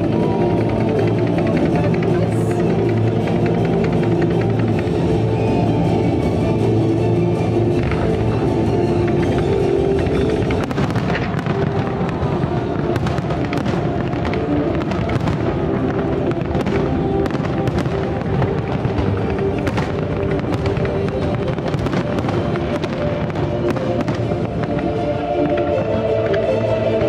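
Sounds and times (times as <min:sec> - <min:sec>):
fireworks popping and crackling: 0:00.0 - 0:27.0
music playing: 0:00.0 - 0:27.0.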